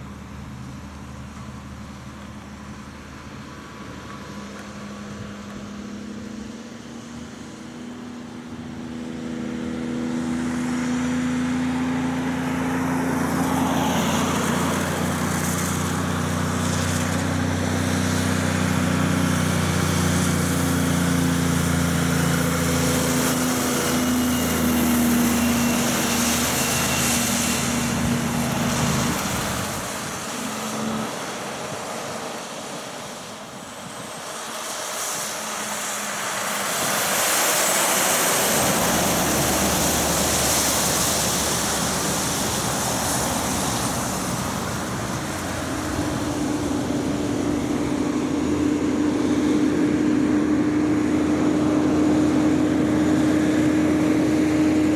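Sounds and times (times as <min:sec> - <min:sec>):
truck diesel engine passing: 0:00.0 - 0:54.9
tyres hissing on wet road: 0:00.0 - 0:54.9.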